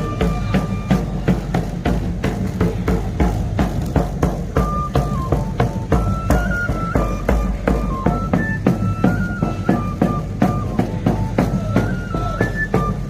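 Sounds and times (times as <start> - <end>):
drum strokes: 0.0 - 13.0
pipe playing high melody: 0.0 - 13.0.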